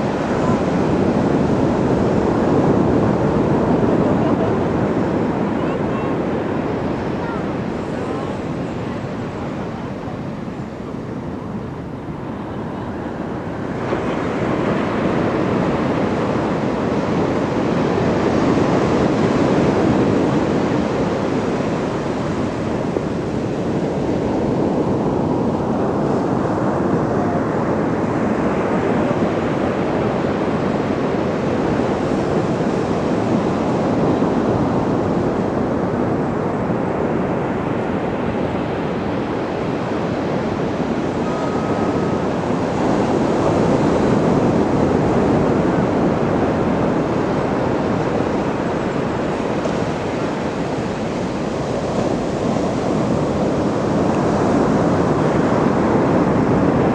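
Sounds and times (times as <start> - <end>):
waves breaking on beach: 0.0 - 56.9.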